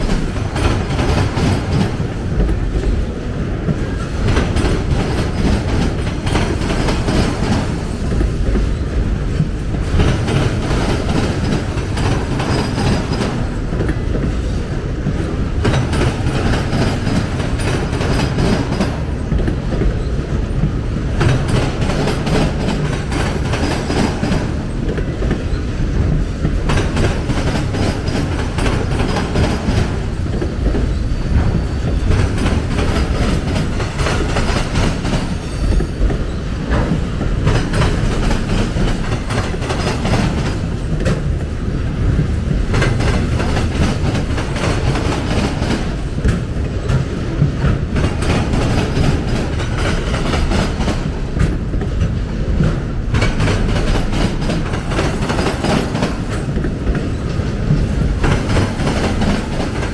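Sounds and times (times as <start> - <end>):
freight wheels rumbling on rail: 0.0 - 59.9
wheels clacking over rail joints: 0.0 - 59.9.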